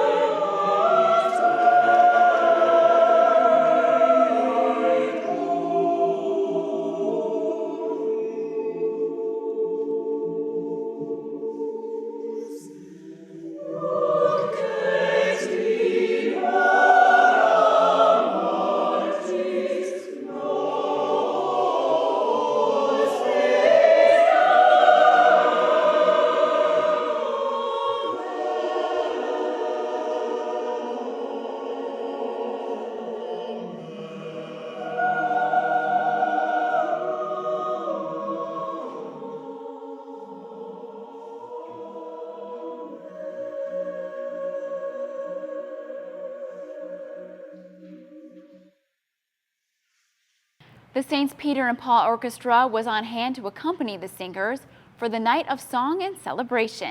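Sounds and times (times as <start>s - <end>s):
church choir singing: 0.0s - 48.9s.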